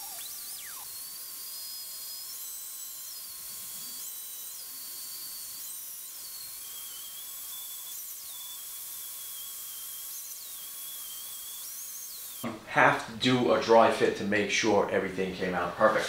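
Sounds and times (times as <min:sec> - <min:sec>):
power joiner whining: 0:00.0 - 0:13.1.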